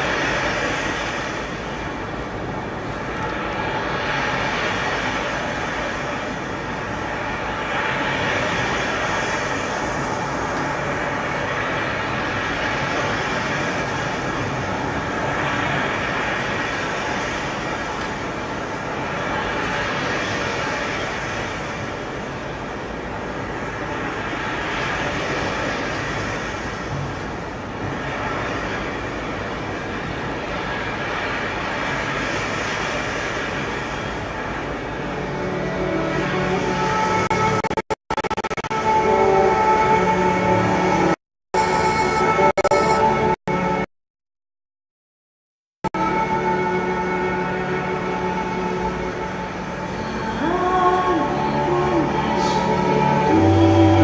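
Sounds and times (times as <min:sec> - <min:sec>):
rushing noise with low rumble: 0:00.0 - 0:43.9, 0:45.8 - 0:54.0.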